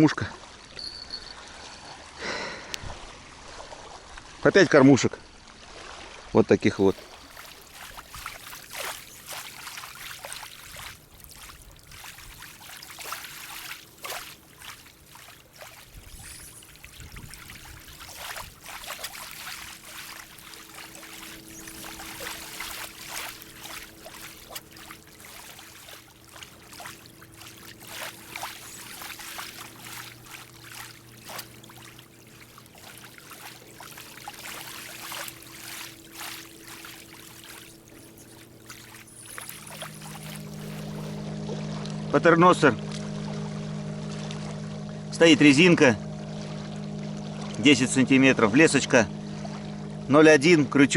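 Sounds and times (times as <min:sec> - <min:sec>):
trickling water: 0:00.0 - 0:42.2
faint steady hum: 0:07.0 - 0:50.9.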